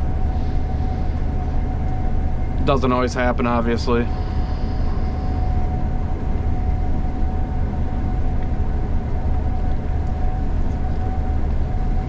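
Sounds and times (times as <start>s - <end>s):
combine harvester engine rumble: 0.0s - 12.0s
thin steady whine: 0.0s - 12.0s.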